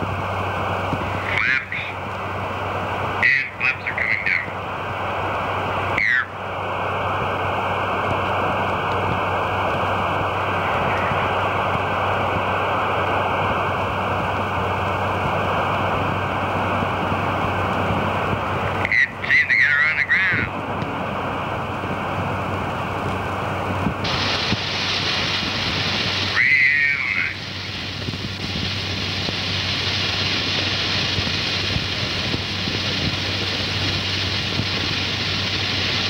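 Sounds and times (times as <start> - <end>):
radio static hiss: 0.3 - 36.0.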